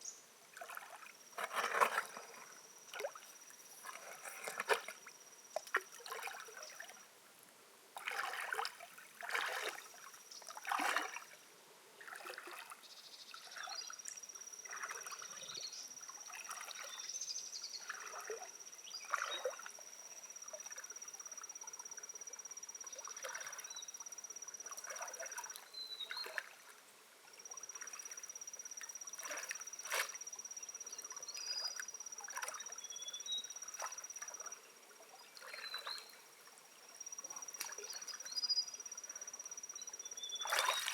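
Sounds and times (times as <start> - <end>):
water splashing and trickling: 0.5 - 7.1, 8.0 - 11.4, 12.0 - 17.1, 17.8 - 30.4, 31.0 - 38.4, 40.3 - 40.9.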